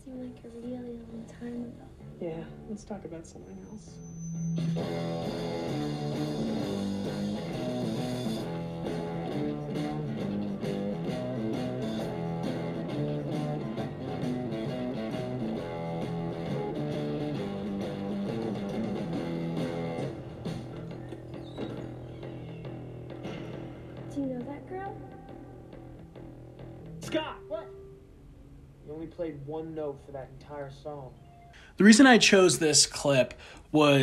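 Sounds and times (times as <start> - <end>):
guitar-led film music: 0.0 - 32.4.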